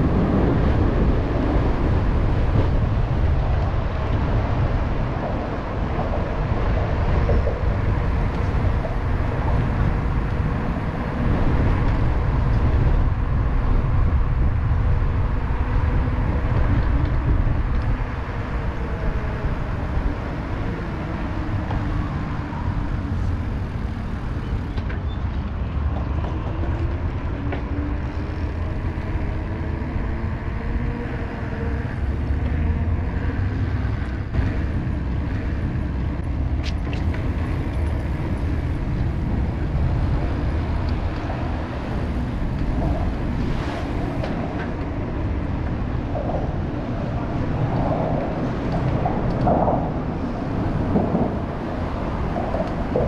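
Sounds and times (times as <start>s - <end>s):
passing traffic: 0.0s - 53.0s
road noise: 0.0s - 53.0s
wind buffeting microphone: 0.0s - 53.0s.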